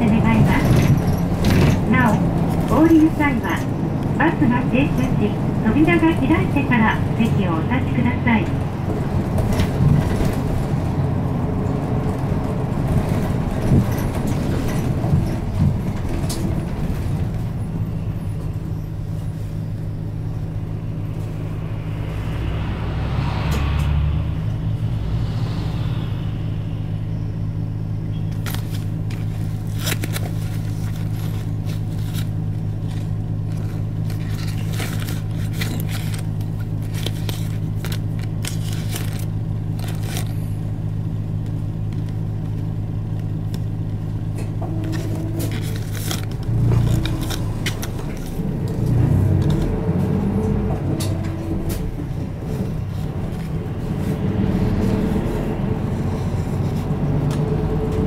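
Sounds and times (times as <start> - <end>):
diesel bus engine idling: 0.0 - 22.9, 23.6 - 58.0.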